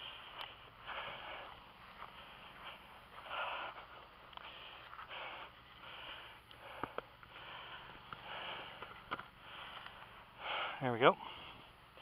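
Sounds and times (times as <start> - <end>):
man breathing: 0.0 - 12.0.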